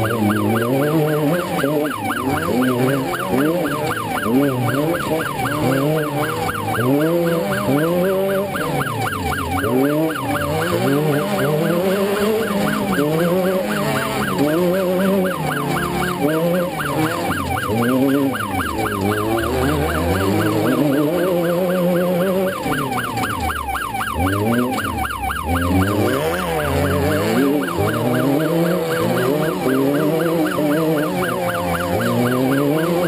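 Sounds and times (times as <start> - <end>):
race car engine revving: 0.0 - 33.0
rapid warbling siren: 0.0 - 33.0.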